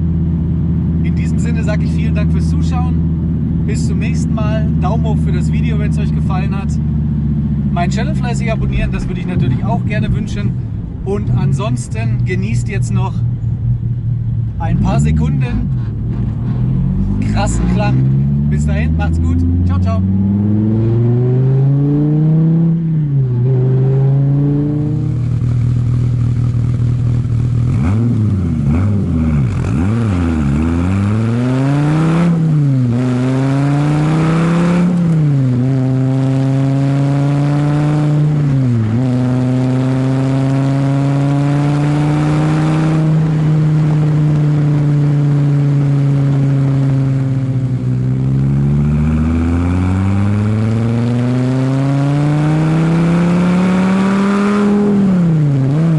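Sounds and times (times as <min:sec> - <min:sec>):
sports car engine revving: 0:00.0 - 0:55.9.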